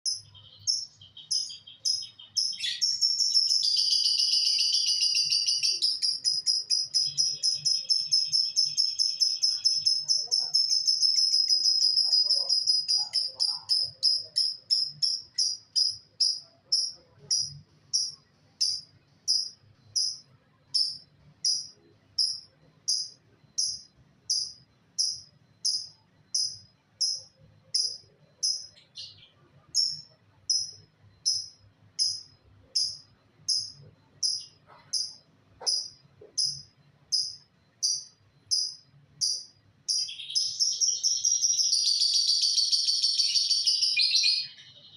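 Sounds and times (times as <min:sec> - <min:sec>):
lovebird chirping: 0:00.1 - 0:44.9.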